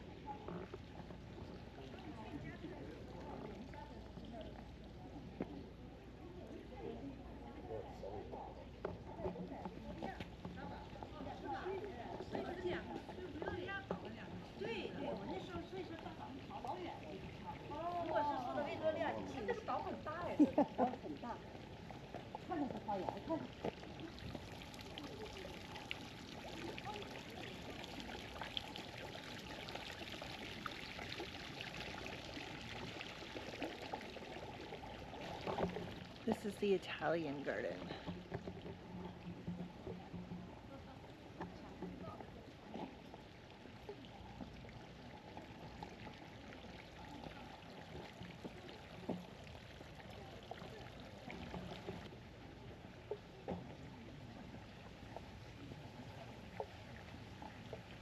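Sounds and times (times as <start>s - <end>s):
water running and splashing: 0.0s - 58.0s.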